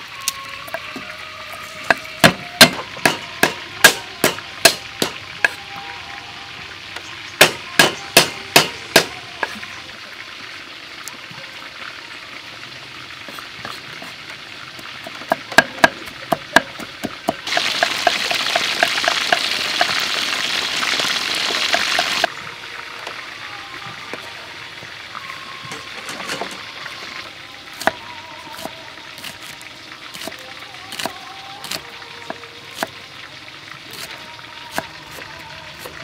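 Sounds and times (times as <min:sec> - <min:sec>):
fish sizzling in hot oil: 0:00.0 - 0:06.0, 0:06.6 - 0:36.0.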